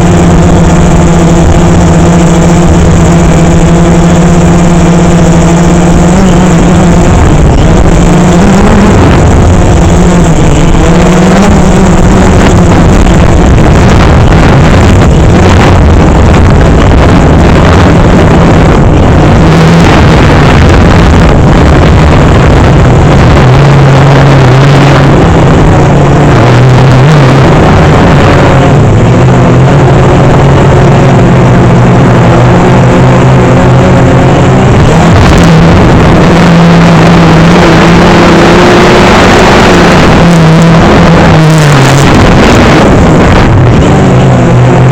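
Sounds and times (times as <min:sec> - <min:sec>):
drone propellers humming: 0:00.0 - 0:44.9.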